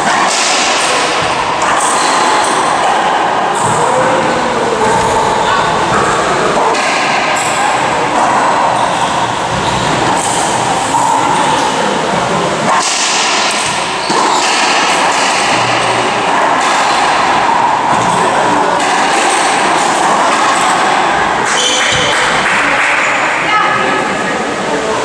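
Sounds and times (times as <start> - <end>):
racquetball hits echoing: 0.0 - 24.2
loud background din: 0.0 - 25.0.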